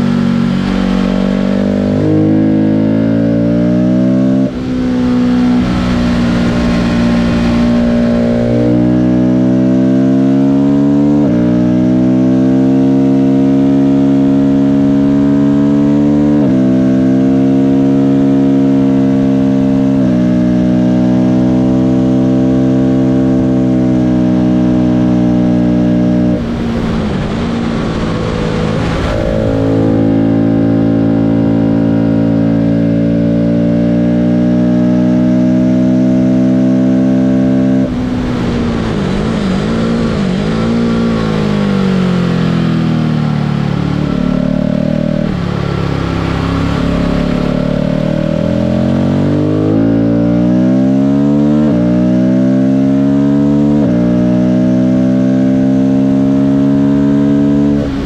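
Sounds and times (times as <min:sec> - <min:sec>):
vehicle engine revving on track: 0:00.0 - 0:58.0.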